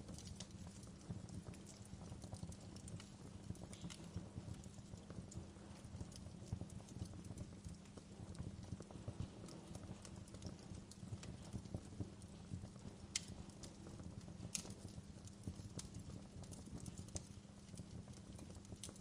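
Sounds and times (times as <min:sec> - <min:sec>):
fire popping: 0:00.0 - 0:19.0
flames rumbling: 0:00.0 - 0:19.0
wood fire crackling: 0:00.0 - 0:19.0.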